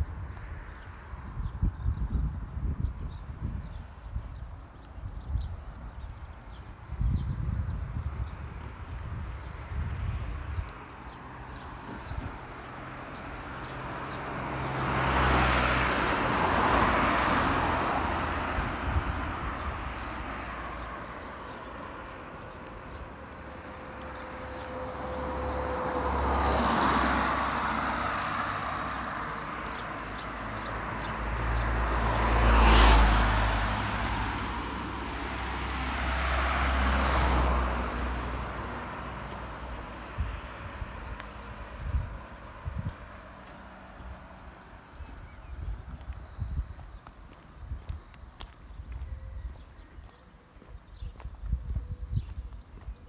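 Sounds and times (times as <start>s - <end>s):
cars passing by: 0.0s - 53.0s.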